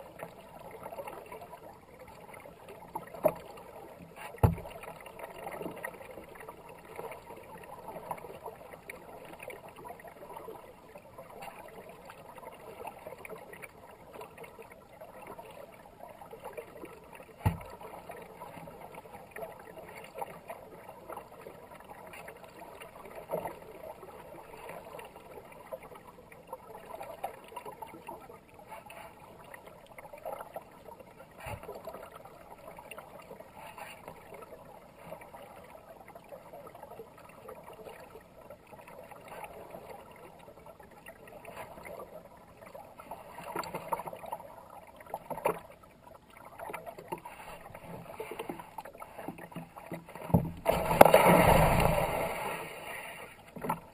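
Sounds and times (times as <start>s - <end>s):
paddle splashes: 0.0s - 53.9s
water gurgling past hull: 0.0s - 53.9s.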